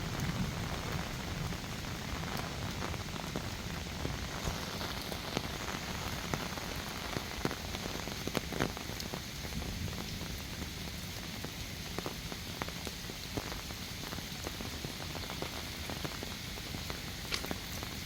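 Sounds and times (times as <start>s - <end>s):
heavy rain hiss: 0.0s - 18.0s
raindrops striking close by: 0.0s - 18.0s.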